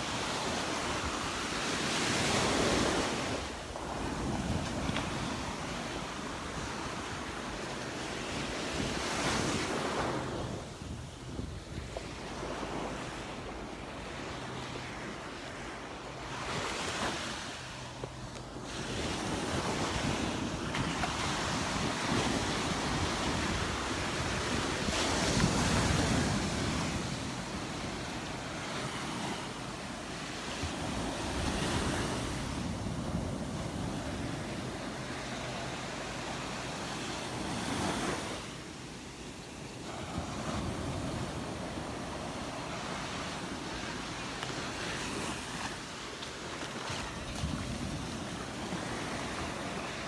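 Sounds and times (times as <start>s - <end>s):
wind rumbling on microphone: 0.0s - 38.5s, 39.6s - 50.0s.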